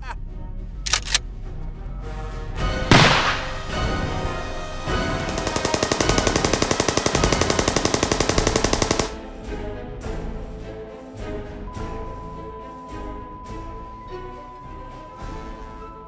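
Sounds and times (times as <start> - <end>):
film music: 0.0 - 16.0.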